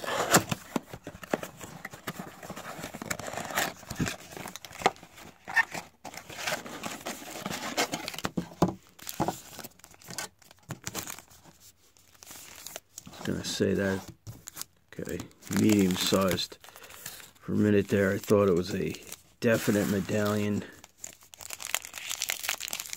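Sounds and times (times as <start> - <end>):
cardboard and wrappers rustling: 0.0 - 22.9.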